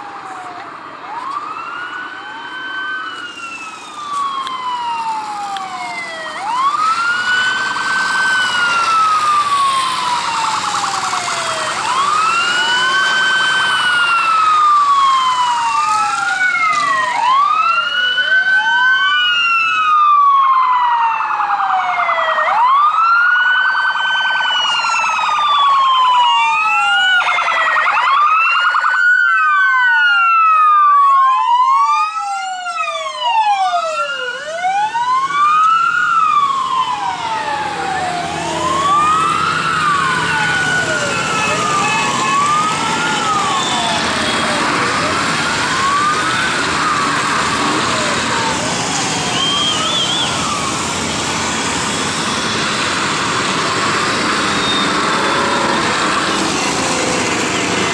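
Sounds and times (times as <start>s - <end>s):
police sirens wailing: 0.0s - 57.9s.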